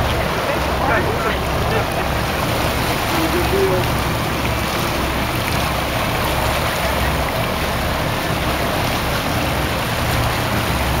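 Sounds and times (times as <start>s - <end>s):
boat rushing on choppy water: 0.0s - 11.0s.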